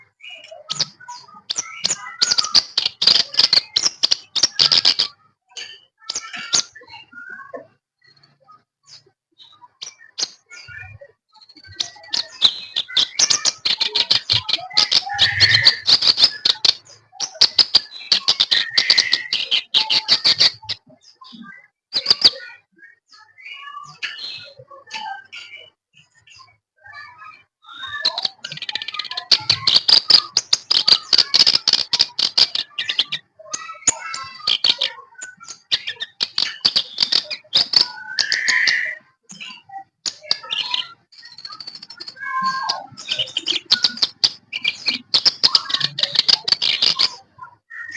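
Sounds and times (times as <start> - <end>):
warbler singing: 0.0 - 47.9.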